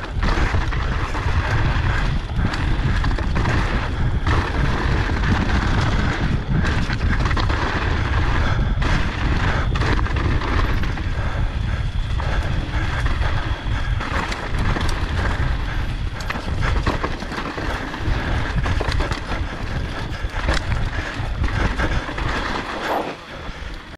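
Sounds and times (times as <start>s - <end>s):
bike clicks and rattles: 0.0s - 23.9s
tyres rolling over rocky trail: 0.0s - 23.9s
wind buffeting microphone: 0.0s - 23.9s.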